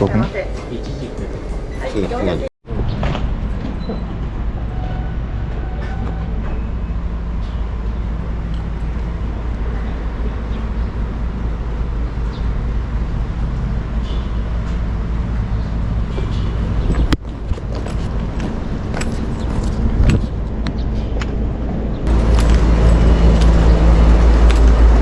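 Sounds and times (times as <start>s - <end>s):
vehicle rumbling: 0.0s - 25.0s.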